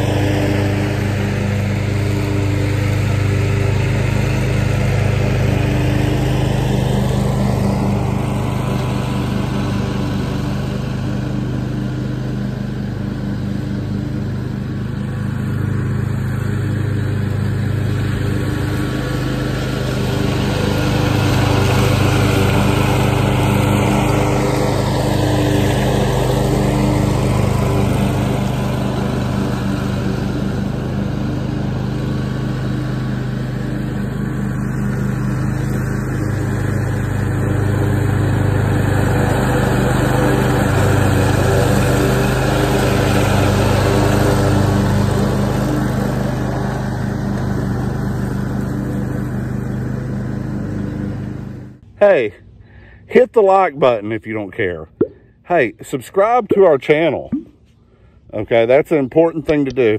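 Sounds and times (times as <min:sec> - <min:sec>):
lawn mower engine cutting grass: 0:00.0 - 0:59.9.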